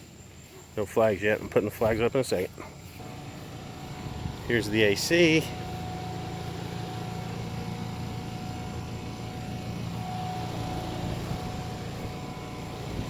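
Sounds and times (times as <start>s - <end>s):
air conditioner unit humming: 0.1s - 13.0s.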